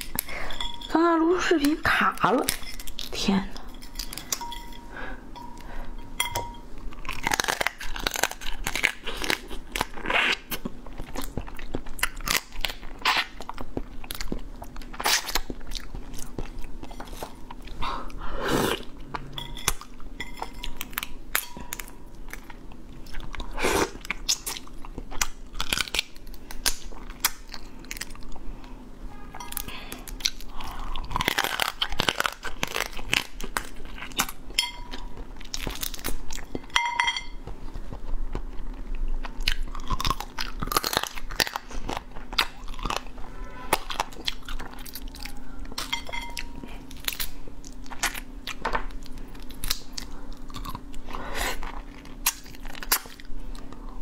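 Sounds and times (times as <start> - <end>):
crab shell crunching being chewed: 5.6 - 28.8, 29.4 - 43.2, 43.8 - 54.0.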